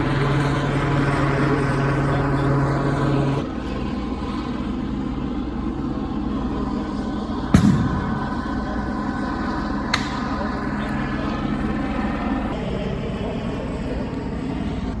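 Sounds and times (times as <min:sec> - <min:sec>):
engine low hum: 0:00.0 - 0:15.0
quiet steady rumble: 0:00.0 - 0:15.0.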